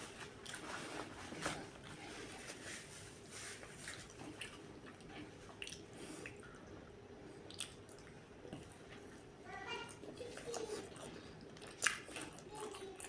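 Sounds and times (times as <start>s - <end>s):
person chewing: 0.2s - 2.6s, 3.6s - 9.0s, 9.9s - 13.0s.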